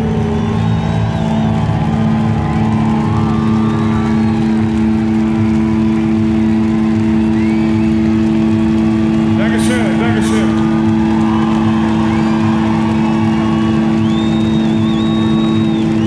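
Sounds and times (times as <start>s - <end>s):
rock band sustained drone: 0.0s - 16.0s.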